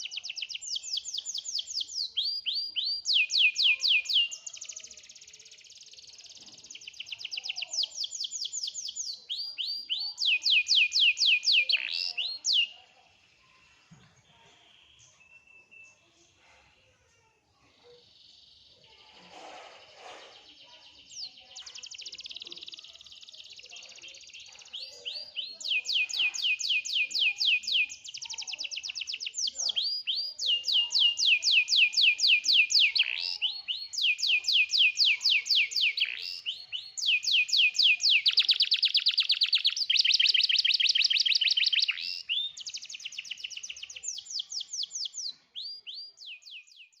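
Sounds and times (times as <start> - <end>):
canary singing trills: 0.0 - 12.8, 18.9 - 47.0.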